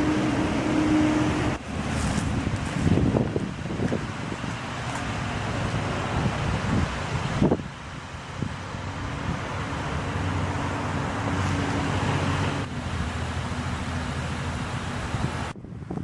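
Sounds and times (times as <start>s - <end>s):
road traffic: 0.0s - 16.0s
vehicle engine hum: 0.0s - 16.0s
wind noise: 0.0s - 16.0s.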